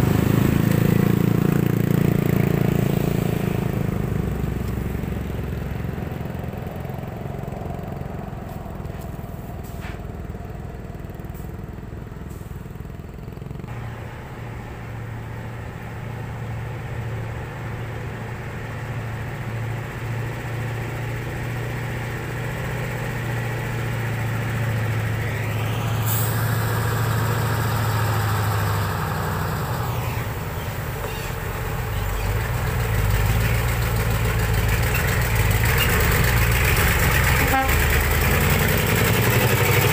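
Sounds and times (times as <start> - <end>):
diesel truck engine drone: 0.0 - 39.9
truck passing with road noise: 0.0 - 39.9.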